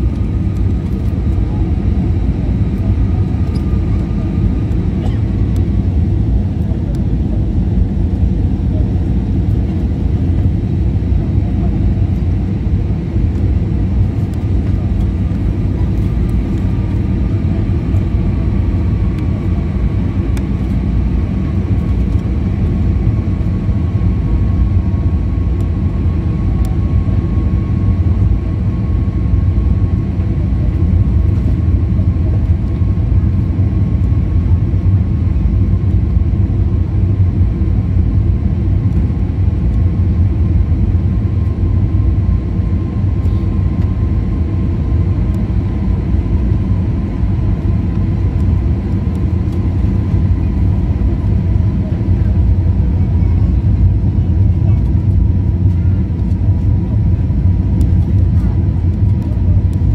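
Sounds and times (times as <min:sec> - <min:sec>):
jet cabin engine rumble: 0:00.0 - 0:59.9.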